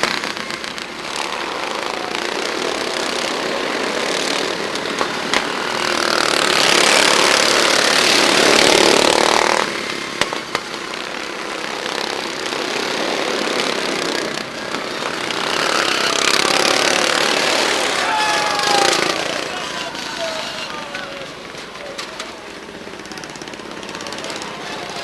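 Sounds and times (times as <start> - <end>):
racing lawn mower engines: 0.0 - 25.0.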